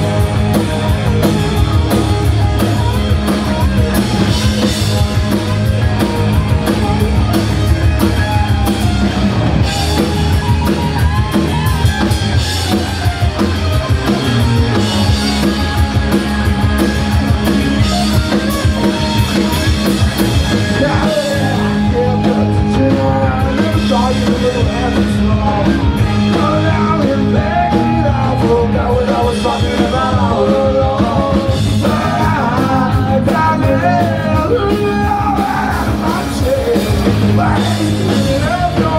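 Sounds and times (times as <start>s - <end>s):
punk rock band playing live: 0.0s - 38.9s.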